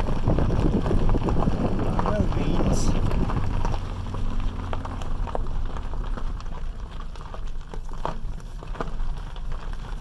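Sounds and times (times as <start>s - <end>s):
engine and tyre rumble: 0.0s - 10.0s
gravel clicks under tyres: 0.0s - 10.0s.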